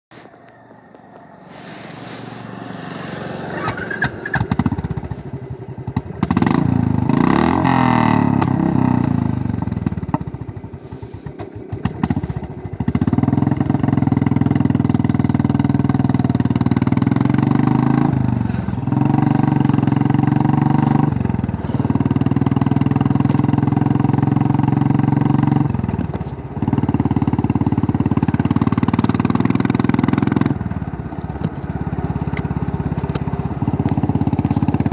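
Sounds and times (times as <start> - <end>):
motorcycle engine and exhaust: 0.1 - 34.9.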